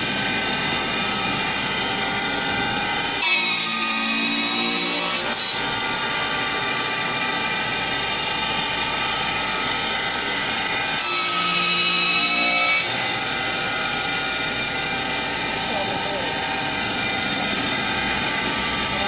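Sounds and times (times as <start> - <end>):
wood lathe whining: 0.0 - 19.0.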